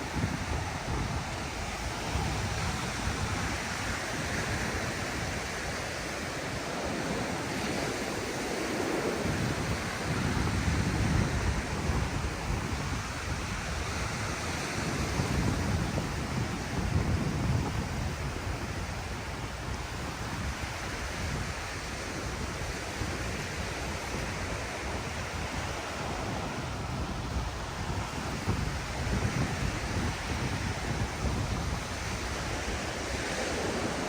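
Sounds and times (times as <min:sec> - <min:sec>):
surf washing onto beach: 0:00.0 - 0:34.0
wind buffeting microphone: 0:00.0 - 0:34.0.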